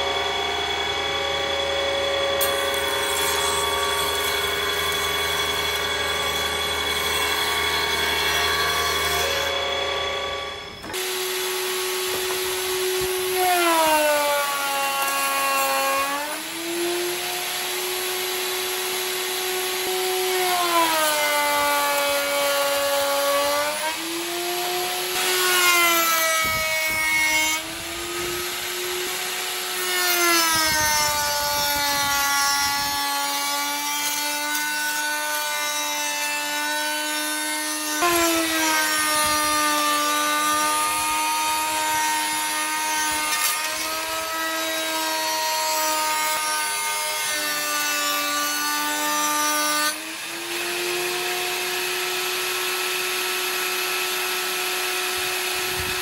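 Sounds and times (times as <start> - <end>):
electric router whining: 0.0 - 56.0
router bit cutting wood: 0.0 - 56.0.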